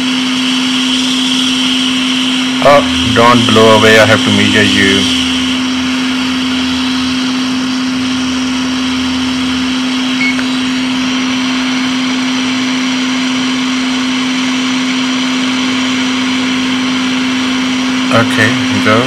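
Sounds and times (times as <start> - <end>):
hot air blower motor hum: 0.0 - 19.0
lower hum: 0.0 - 19.0.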